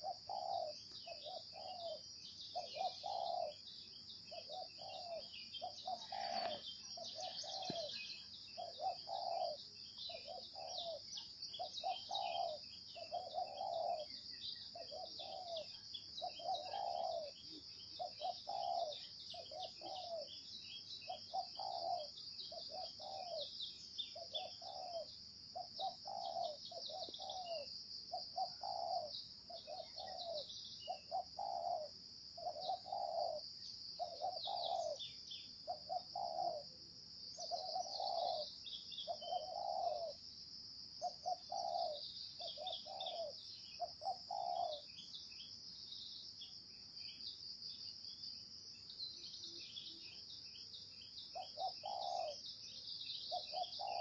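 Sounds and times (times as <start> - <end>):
dove cooing: 0.0 - 3.7, 4.3 - 20.4, 21.1 - 40.2, 41.0 - 44.9, 51.4 - 52.4, 53.2 - 54.0
small birds chirping: 0.0 - 54.0.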